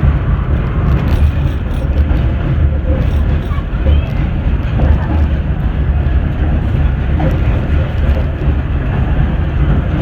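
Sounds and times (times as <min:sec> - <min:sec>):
subway train rumbling on track: 0:00.0 - 0:10.0.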